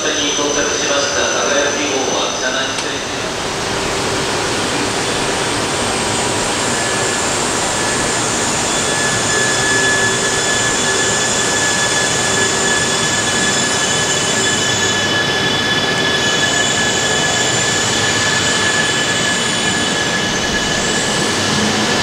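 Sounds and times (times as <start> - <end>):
high whining tones: 0.0 - 22.0
train rolling rush: 0.0 - 22.0.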